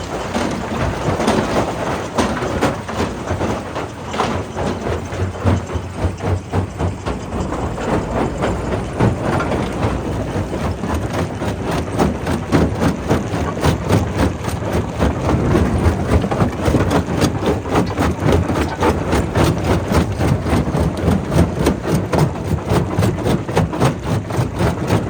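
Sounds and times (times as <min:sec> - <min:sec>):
rock crusher rumbling: 0:00.0 - 0:25.0.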